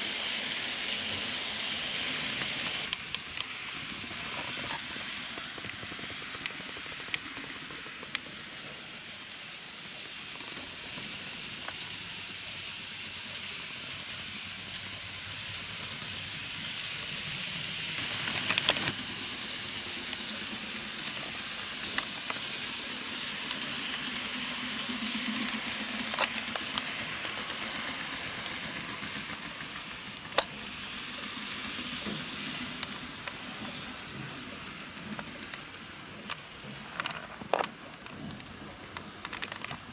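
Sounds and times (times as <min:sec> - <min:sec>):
model trains rumbling on track: 0:00.0 - 0:39.9.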